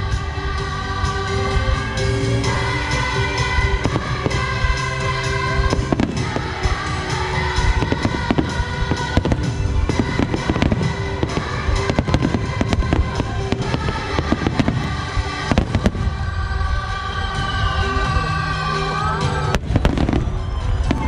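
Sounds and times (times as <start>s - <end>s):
music with long held notes: 0.0s - 21.0s.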